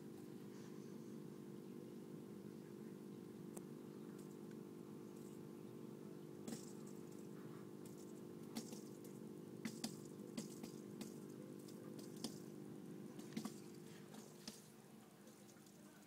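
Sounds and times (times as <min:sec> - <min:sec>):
aquarium filter hum: 0:00.0 - 0:16.0.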